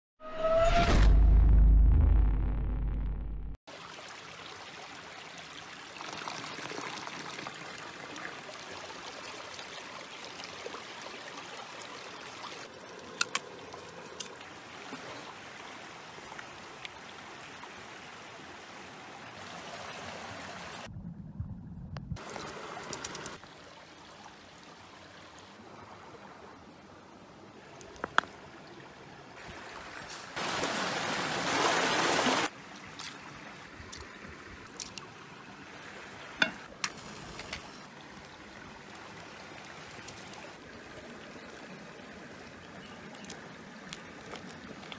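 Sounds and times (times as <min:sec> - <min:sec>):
stream running over rocks: 0:03.7 - 0:20.9, 0:22.2 - 0:44.9.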